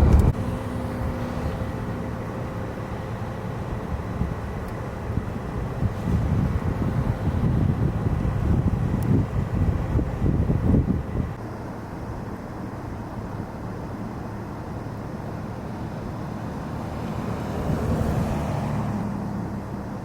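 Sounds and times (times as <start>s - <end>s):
passing vehicle tyre noise: 0.0s - 11.4s, 15.2s - 20.0s
vehicle engine humming: 0.0s - 20.0s.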